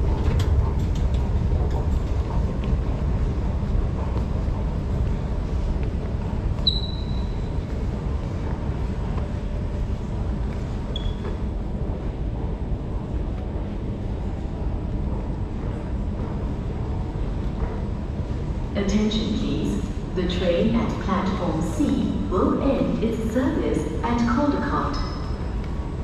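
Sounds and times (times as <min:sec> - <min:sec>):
low rumble of metro station: 0:00.0 - 0:26.0.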